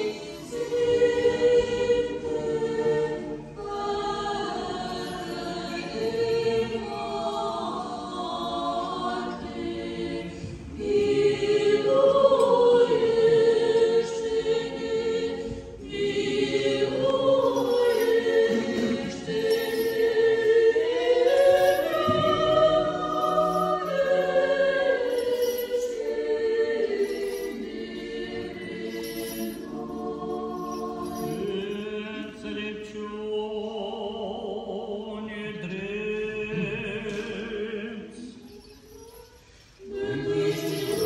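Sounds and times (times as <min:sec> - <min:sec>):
choir singing a hymn unaccompanied: 0:00.0 - 0:38.3, 0:39.8 - 0:41.0.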